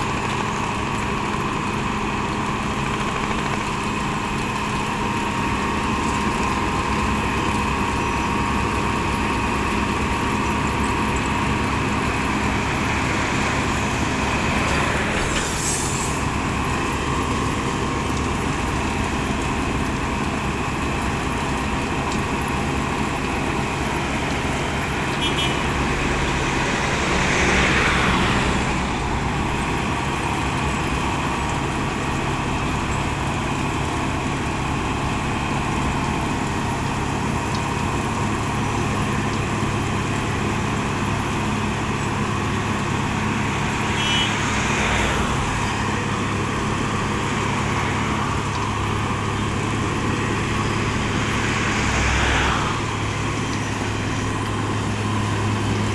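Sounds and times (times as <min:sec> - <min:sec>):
heavy diesel machinery running: 0:00.0 - 0:55.9.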